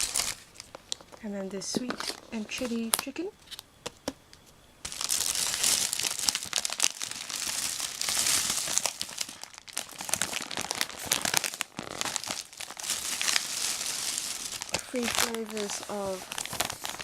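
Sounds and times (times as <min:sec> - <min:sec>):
plastic packaging crinkling: 0:00.0 - 0:03.6, 0:04.8 - 0:17.0.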